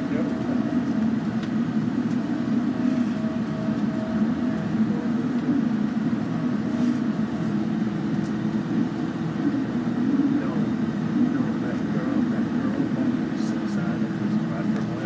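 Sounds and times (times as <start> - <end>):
bus engine drone: 0.0 - 15.0
faint whine: 0.0 - 15.0.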